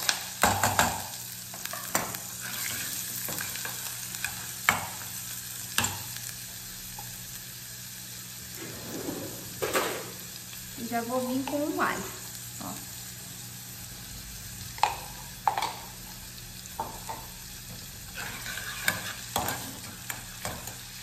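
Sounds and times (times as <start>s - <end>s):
onion sizzling in a pan: 0.0s - 21.0s.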